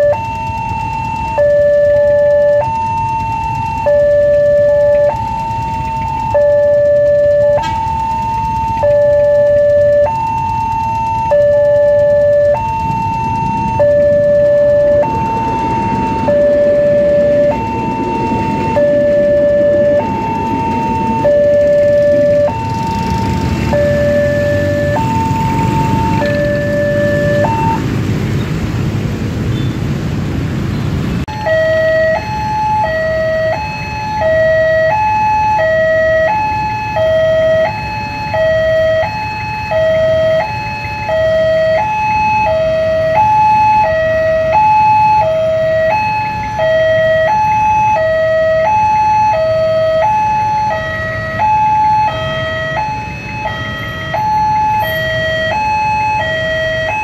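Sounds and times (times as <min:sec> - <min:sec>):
two-tone crossing alarm: 0:00.0 - 0:27.8, 0:31.3 - 0:57.0.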